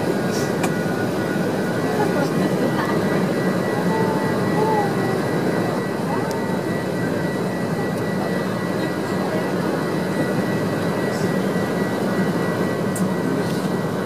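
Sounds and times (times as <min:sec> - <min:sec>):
airliner cabin engine rush: 0:00.0 - 0:14.0.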